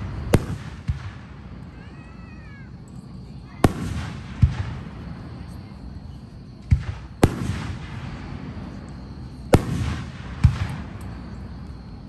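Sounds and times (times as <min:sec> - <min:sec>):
fireworks booming with echo: 0:00.0 - 0:12.0.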